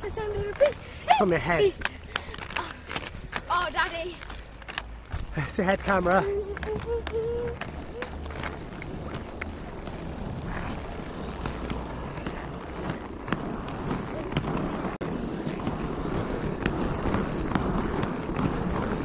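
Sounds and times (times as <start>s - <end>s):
skate wheels rumbling on asphalt: 0.0s - 19.0s.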